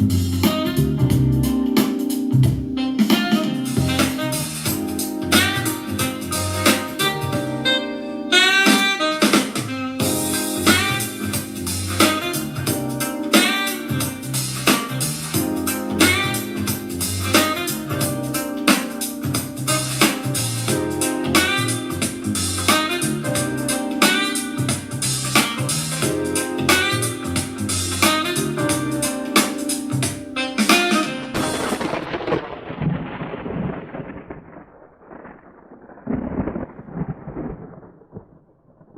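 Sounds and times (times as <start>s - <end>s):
music with keyboard chords: 0.0s - 32.0s.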